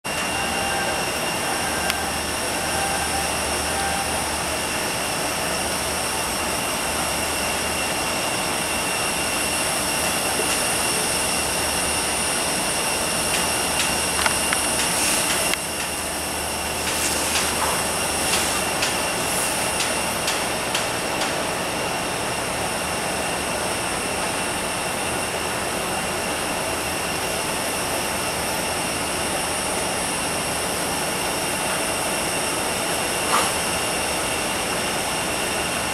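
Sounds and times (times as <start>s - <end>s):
aircraft auxiliary power unit whine: 0.0s - 35.9s.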